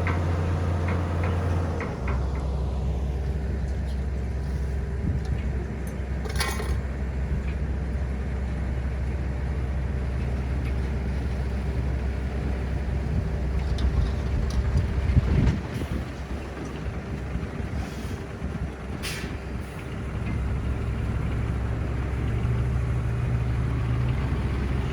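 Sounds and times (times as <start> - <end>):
diesel engine running low: 0.0 - 24.9.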